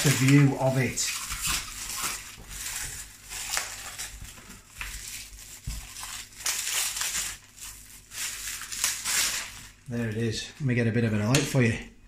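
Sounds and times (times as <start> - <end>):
plastic wrap crinkling: 0.0 - 11.3.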